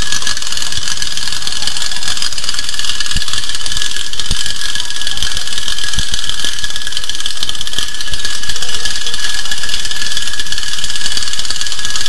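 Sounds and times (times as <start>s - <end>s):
clockwork motor whirring: 0.0s - 12.0s.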